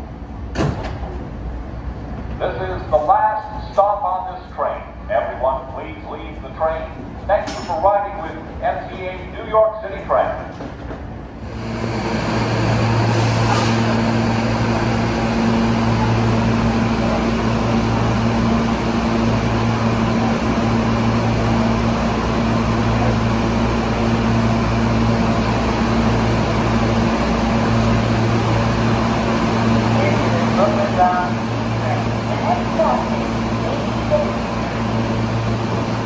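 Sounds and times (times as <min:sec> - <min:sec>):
air-conditioning rushing noise: 0:00.0 - 0:36.0.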